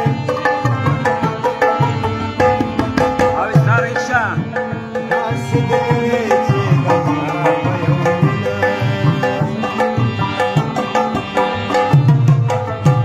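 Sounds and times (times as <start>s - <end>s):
harmonium chords and melody: 0.0s - 13.0s
tabla rhythm with bass strokes: 0.0s - 13.0s.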